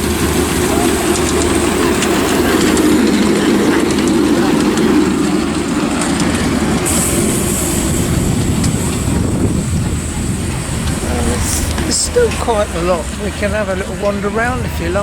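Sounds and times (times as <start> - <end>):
high hiss: 0.0 - 14.3
train wheels rumbling on rails: 0.0 - 15.0.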